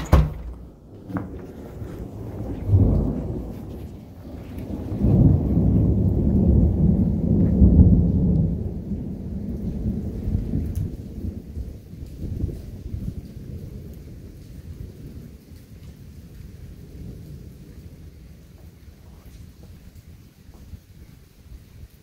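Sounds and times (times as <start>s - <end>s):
rolling thunder: 0.0s - 15.4s, 16.0s - 20.0s.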